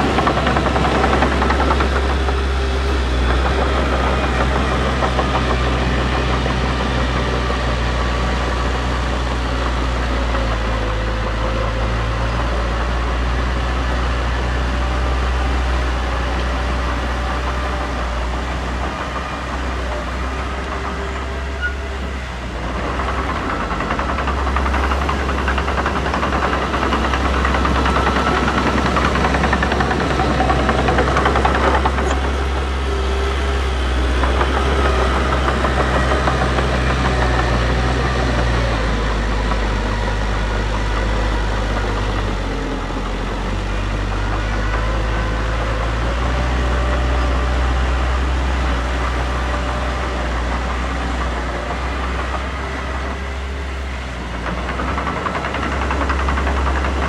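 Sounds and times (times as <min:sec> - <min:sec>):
earthmoving machinery diesel engine: 0:00.0 - 0:57.0.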